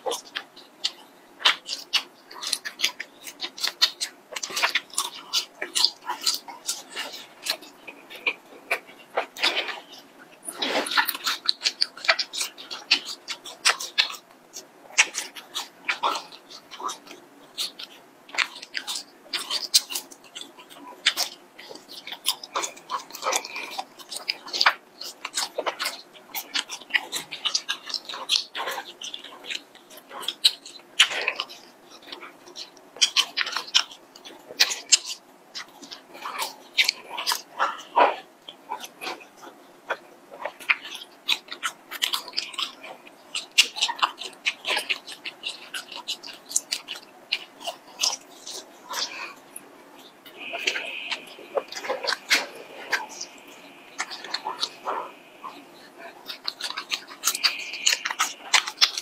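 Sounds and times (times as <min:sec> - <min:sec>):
person chewing wetly: 0:00.0 - 0:59.0.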